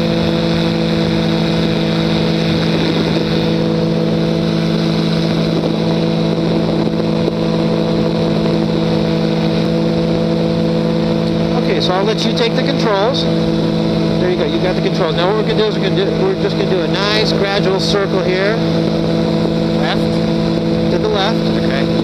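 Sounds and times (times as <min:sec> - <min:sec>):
ultralight aircraft engine hum: 0:00.0 - 0:22.0.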